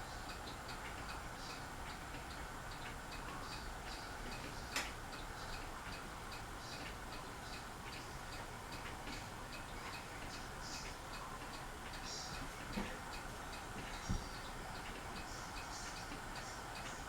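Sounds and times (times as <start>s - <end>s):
ceiling fan whooshing: 0.0s - 17.0s
fan ticking: 0.0s - 17.0s.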